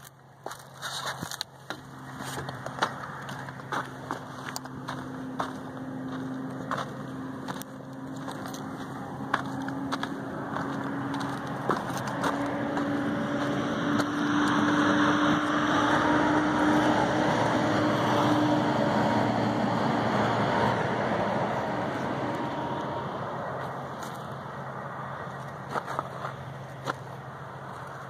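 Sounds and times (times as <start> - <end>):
vehicle passing by: 1.2 - 28.0.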